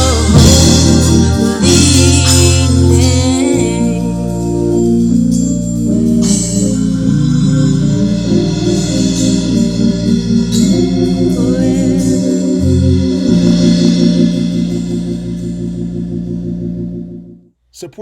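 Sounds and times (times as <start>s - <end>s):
drum kit: 0.0s - 17.0s
organ chords: 0.0s - 17.6s
steady bass line: 0.0s - 17.9s.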